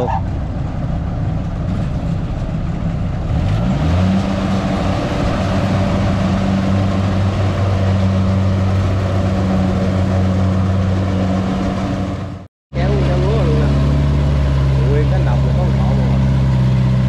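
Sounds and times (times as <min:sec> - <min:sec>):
combine harvester diesel engine: 0:00.0 - 0:17.0.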